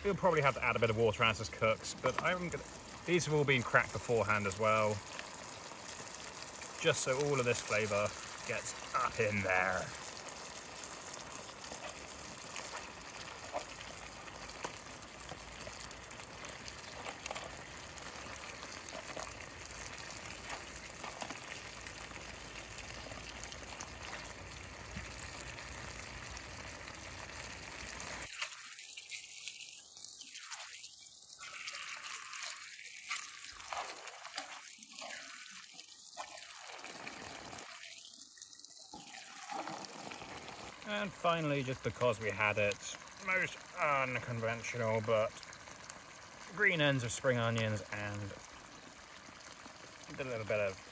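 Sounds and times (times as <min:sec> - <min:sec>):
curry bubbling in a pan: 0:00.0 - 0:50.9.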